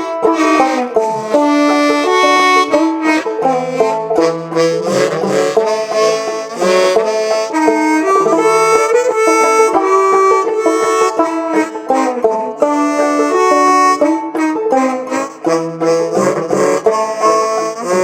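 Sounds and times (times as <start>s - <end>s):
banjo: 0.0s - 18.0s
lead instrument long held notes: 0.0s - 18.0s.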